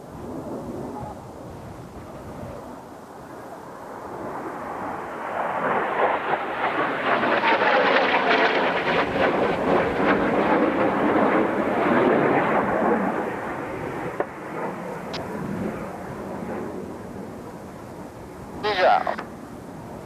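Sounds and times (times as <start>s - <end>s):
jet aircraft passing: 0.0s - 20.0s.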